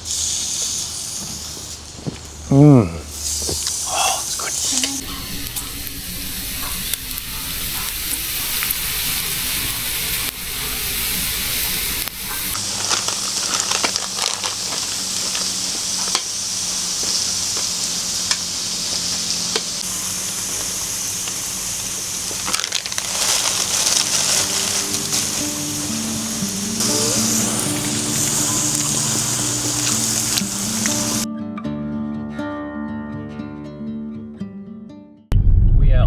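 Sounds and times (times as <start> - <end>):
fat popping and crackling: 0.0 - 31.3
meat sizzling on grill: 0.0 - 31.3.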